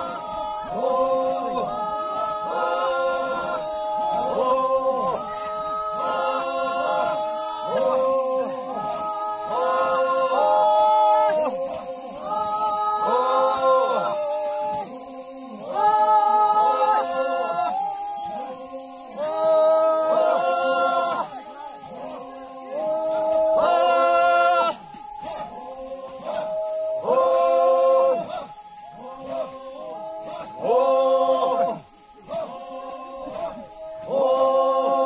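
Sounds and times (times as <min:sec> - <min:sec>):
voices singing a cappella: 0:00.0 - 0:35.0.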